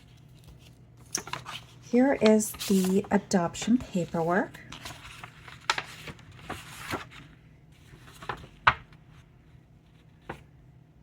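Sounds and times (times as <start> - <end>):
paper rustling and sliding: 0.0 - 10.5.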